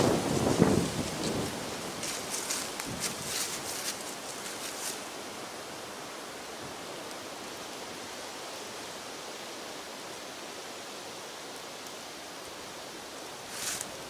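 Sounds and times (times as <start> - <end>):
wind blowing through woods: 0.0 - 14.0.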